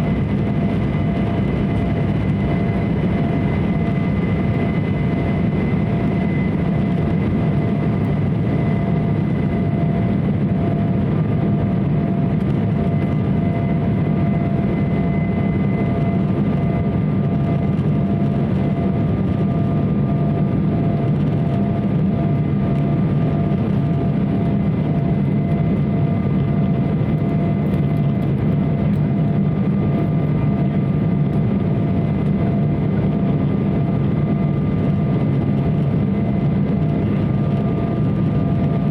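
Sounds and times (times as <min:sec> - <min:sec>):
faint engine whine: 0:00.0 - 0:38.9
jet airliner cabin roar: 0:00.0 - 0:38.9.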